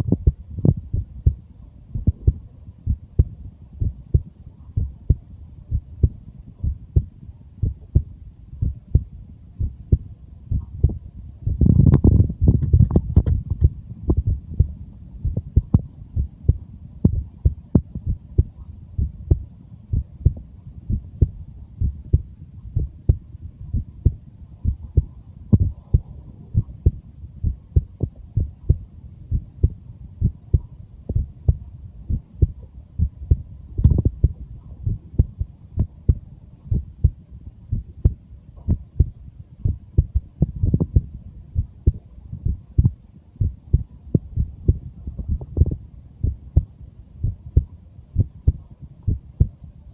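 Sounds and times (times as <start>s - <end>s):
heartbeat thumps: 0.0s - 49.6s
low rumble: 0.0s - 49.9s
steady low hum: 0.0s - 49.9s.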